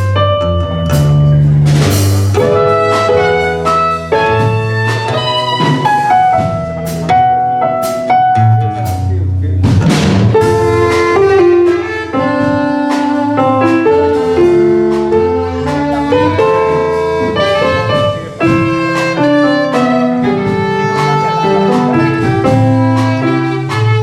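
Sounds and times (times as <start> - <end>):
instrumental ensemble music: 0.0 - 24.0
percussive hits: 0.6 - 24.0.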